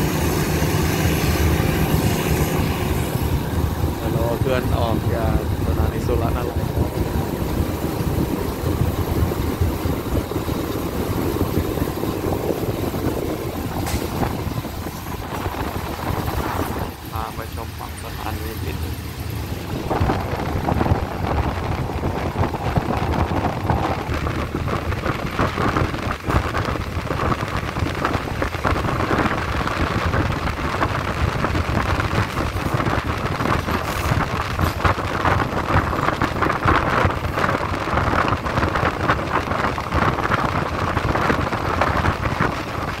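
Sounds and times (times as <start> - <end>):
air rushing past microphone: 0.0 - 43.0
train wheels rumbling on rails: 0.0 - 43.0.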